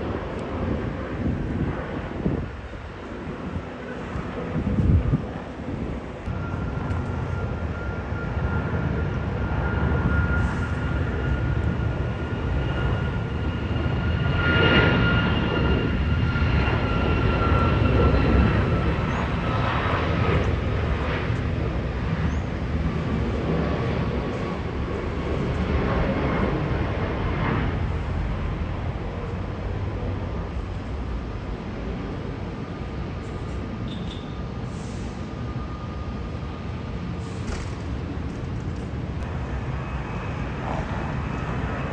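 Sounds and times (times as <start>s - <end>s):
jet airliner passing: 0.0s - 41.9s.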